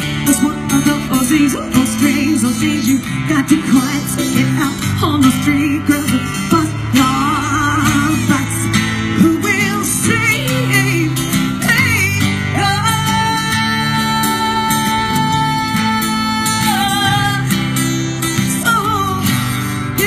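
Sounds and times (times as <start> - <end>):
acoustic guitars strumming: 0.0 - 20.0
woman singing through pa: 0.1 - 17.6.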